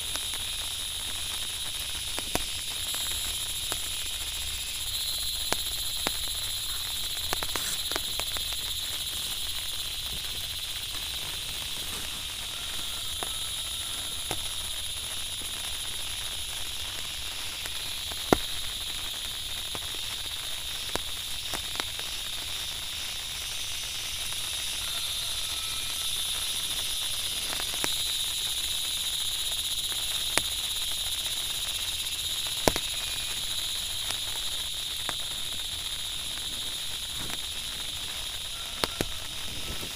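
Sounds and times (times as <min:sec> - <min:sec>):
insects calling: 0:00.0 - 0:39.9.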